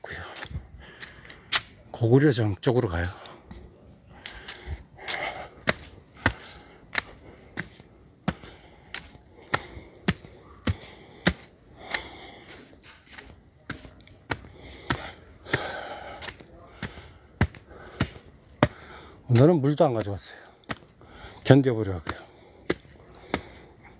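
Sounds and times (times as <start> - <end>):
footsteps on concrete stairs: 0.0 - 1.7, 3.0 - 23.9.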